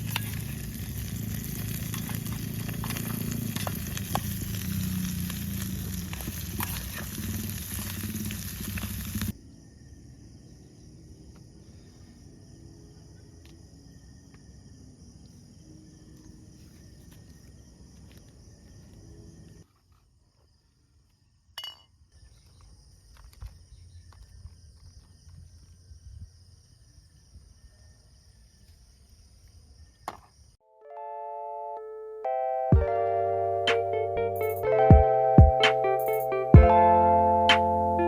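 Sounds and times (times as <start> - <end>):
chorus of insects: 0.0 - 30.6.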